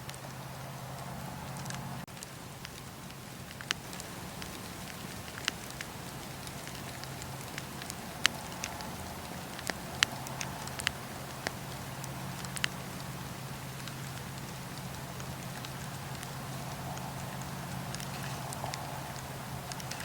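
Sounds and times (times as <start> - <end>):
fire pops and snaps: 0.0 - 20.0
wood fire crackling: 0.0 - 20.0.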